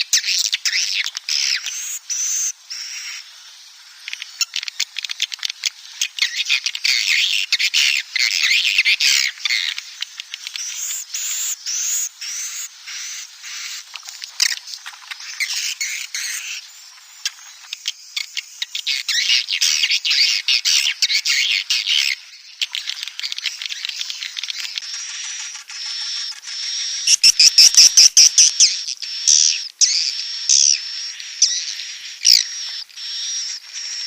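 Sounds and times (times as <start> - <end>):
swiftlet colony twittering chirps: 0.0 - 34.0.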